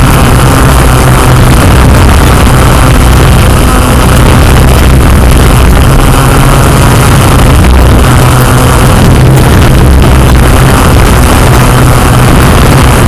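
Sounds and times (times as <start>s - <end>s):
drone motors and propellers humming: 0.0s - 13.0s.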